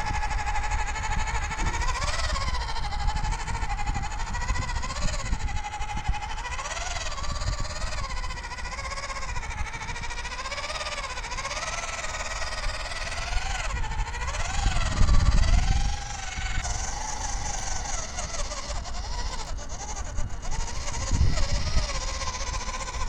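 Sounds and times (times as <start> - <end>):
electric motor and gearbox whining: 0.0 - 23.0.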